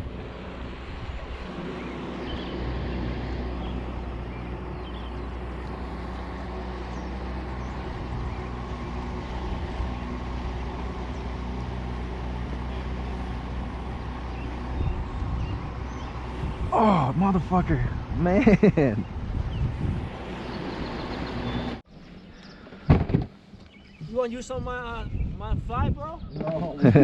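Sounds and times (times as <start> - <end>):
engine humming steadily: 0.0 - 24.3, 26.3 - 27.0.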